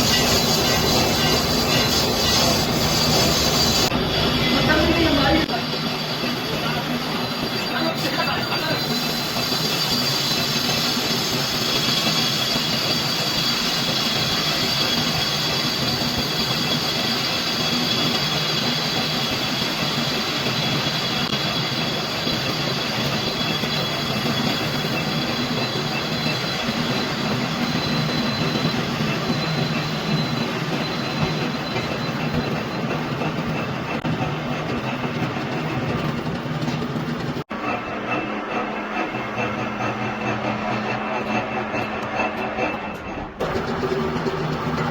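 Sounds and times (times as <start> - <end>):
metal lathe running: 0.0 - 44.9.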